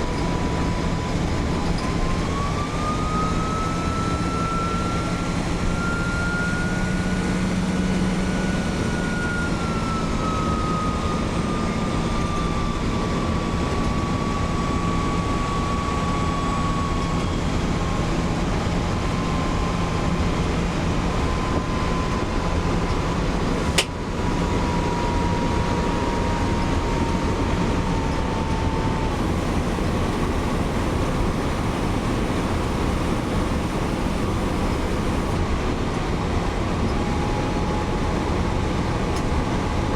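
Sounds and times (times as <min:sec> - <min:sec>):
turbocharger whine: 0:00.0 - 0:36.2
bus engine and road noise: 0:00.0 - 0:39.9.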